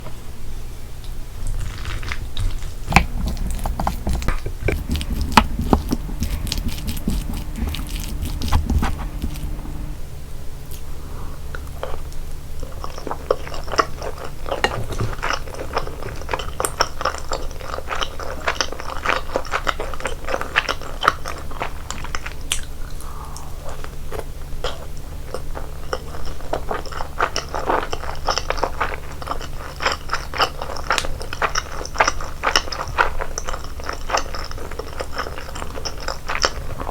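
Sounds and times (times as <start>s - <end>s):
person chewing crunchy food: 1.0s - 10.0s, 11.5s - 36.9s.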